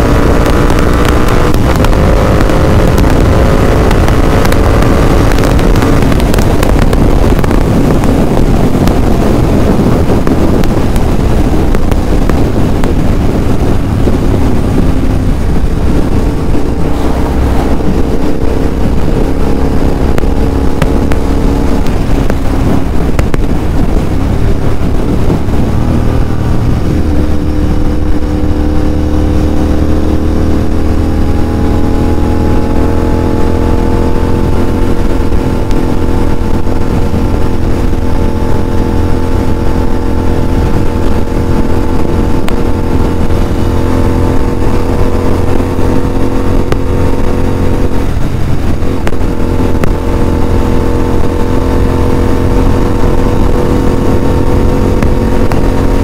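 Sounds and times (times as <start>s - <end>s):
motorcycle engine cruising: 0.0s - 56.0s
wind rush: 0.0s - 56.0s.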